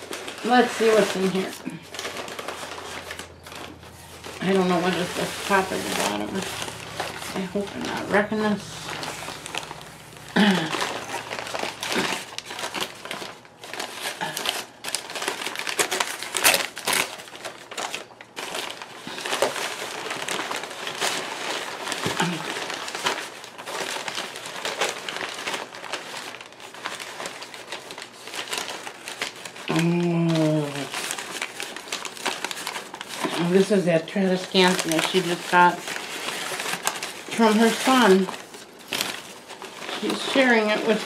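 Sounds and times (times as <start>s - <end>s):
packing paper crinkling: 0.0s - 41.0s.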